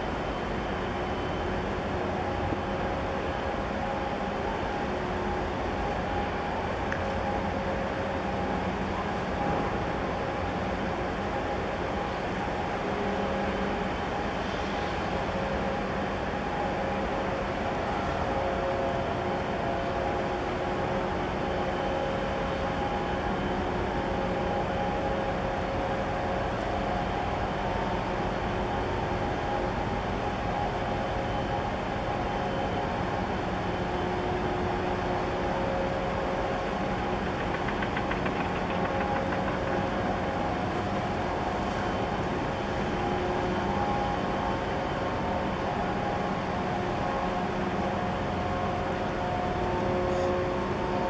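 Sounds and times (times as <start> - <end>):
ship machinery droning: 0.0 - 51.0.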